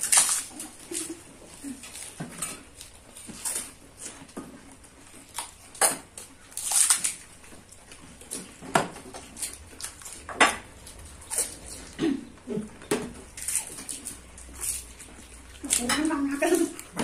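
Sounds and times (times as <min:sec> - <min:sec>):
crunching and slurping food: 0:00.0 - 0:17.0.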